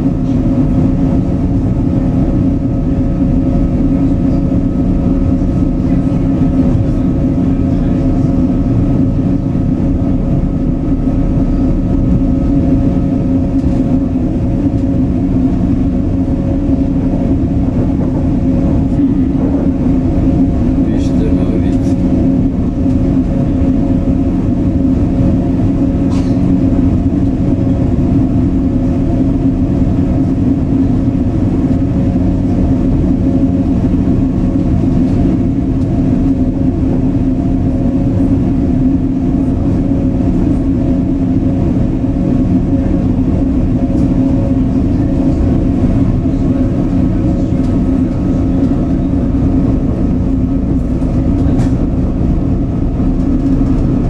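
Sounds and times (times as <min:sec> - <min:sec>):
constant hum: 0:00.0 - 0:54.0
train wheels rumbling on rail: 0:00.0 - 0:54.0.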